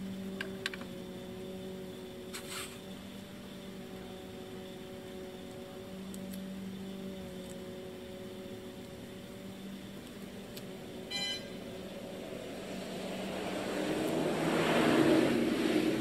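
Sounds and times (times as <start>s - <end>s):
steady low hum: 0.0s - 16.0s
vehicle approaching: 0.0s - 16.0s.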